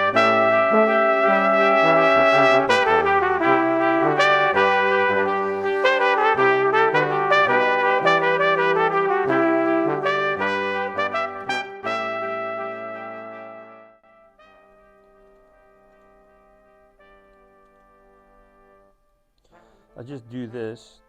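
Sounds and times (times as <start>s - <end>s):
brass-led instrumental music: 0.0s - 21.0s.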